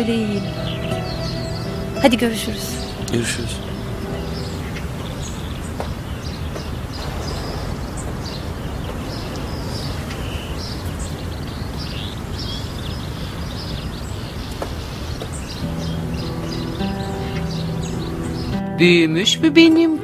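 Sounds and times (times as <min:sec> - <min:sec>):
small birds chirping: 0:00.0 - 0:19.7
outdoor background hiss: 0:00.0 - 0:20.0.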